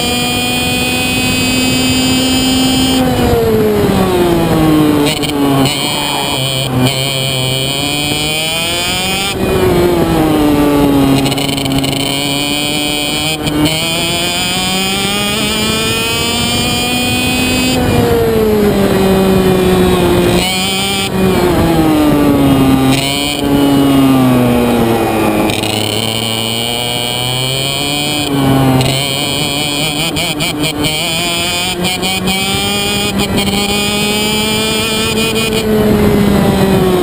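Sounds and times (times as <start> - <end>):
kart engine accelerating: 0.0 - 37.0.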